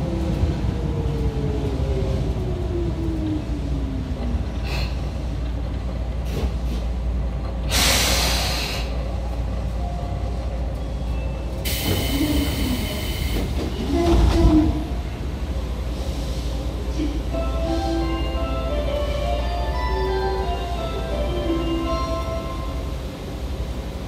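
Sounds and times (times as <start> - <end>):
train rumbling in tunnel: 0.0 - 24.0.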